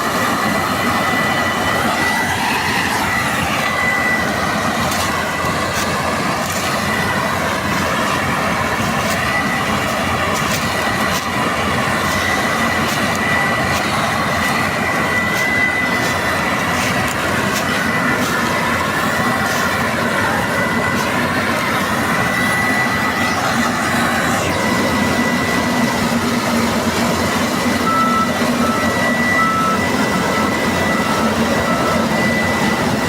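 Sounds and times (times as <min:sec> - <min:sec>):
combine harvester running: 0:00.0 - 0:33.0
high-pitched mechanical whine: 0:00.0 - 0:33.0.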